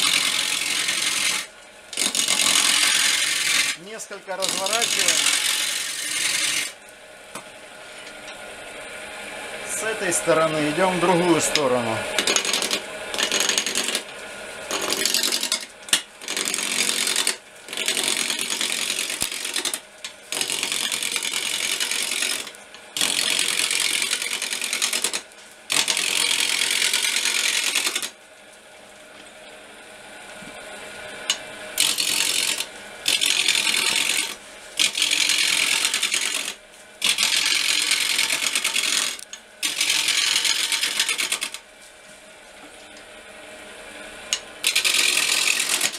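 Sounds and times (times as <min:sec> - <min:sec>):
chisel scraping spinning wood: 0:00.0 - 0:06.8, 0:09.7 - 0:28.2, 0:31.2 - 0:41.6, 0:44.3 - 0:45.9
wood lathe running: 0:00.0 - 0:06.8, 0:09.5 - 0:14.1, 0:14.7 - 0:28.2, 0:31.2 - 0:41.6, 0:44.3 - 0:45.9.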